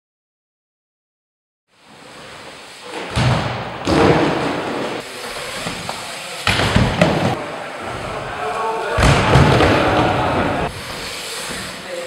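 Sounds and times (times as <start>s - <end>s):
skatepark ambience: 1.7s - 12.0s.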